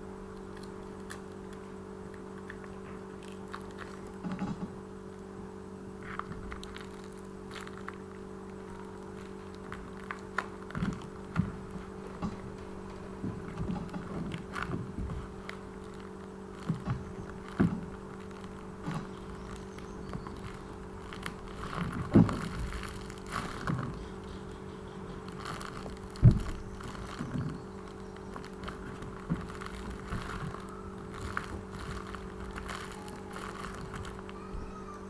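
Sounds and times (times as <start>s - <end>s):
steady low hum: 0.0s - 35.0s
soft knocks and handling noises: 6.1s - 34.4s.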